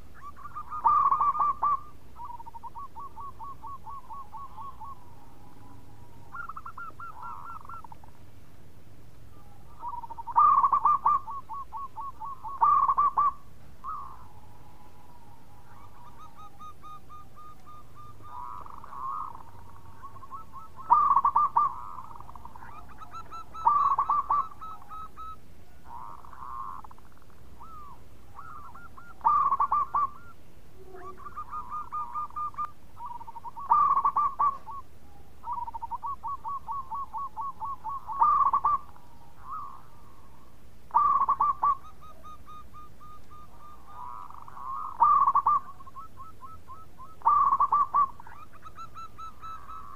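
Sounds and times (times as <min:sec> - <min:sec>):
dove staccato cooing: 0:00.0 - 0:08.2, 0:09.4 - 0:49.9
quiet trilled coos: 0:00.0 - 0:08.3, 0:09.2 - 0:49.9.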